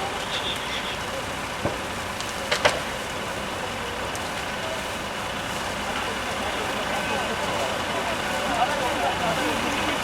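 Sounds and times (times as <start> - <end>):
fire rushing and rumbling: 0.0 - 10.0.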